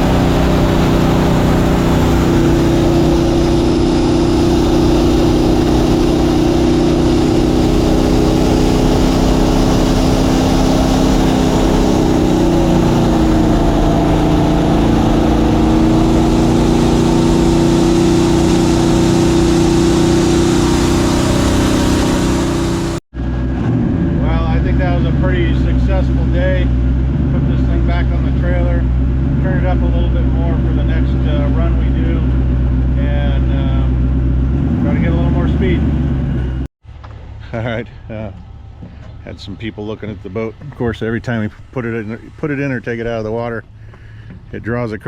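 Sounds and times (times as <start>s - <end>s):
jet boat engine running: 0.0s - 44.6s.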